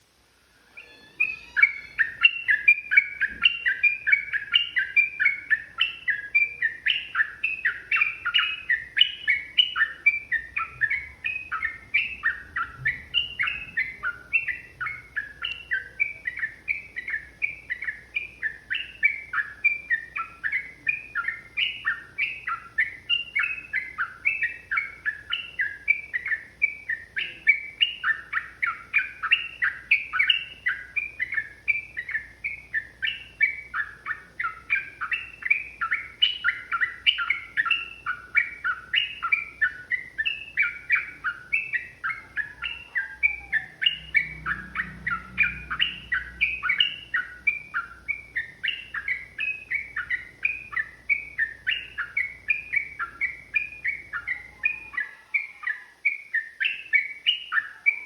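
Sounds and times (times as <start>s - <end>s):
bird singing quick notes: 0.8s - 58.0s.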